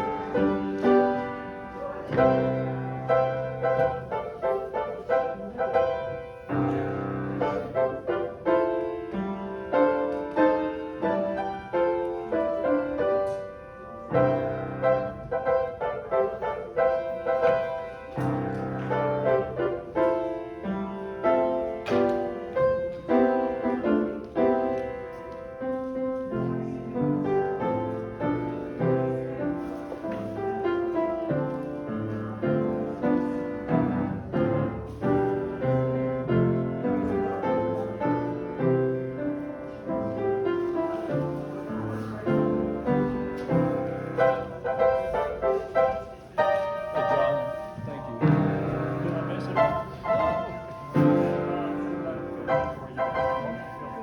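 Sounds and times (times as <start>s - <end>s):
piano playing hymn: 0.0s - 54.0s.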